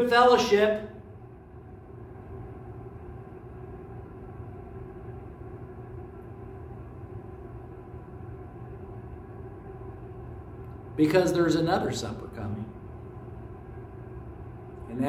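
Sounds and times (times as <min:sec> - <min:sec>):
room hum and rumble: 0:00.0 - 0:15.0.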